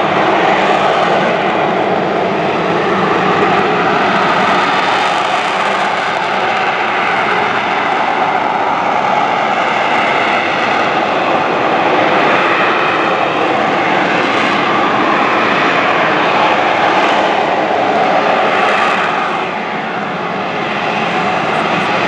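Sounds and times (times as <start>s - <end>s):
loud jet engine roar: 0.0s - 22.0s.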